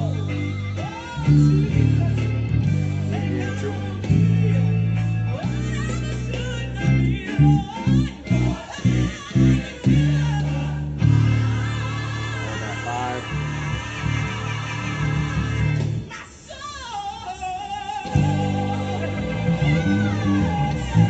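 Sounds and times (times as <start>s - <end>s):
electric bass guitar playing: 0.0s - 16.1s, 18.1s - 21.0s.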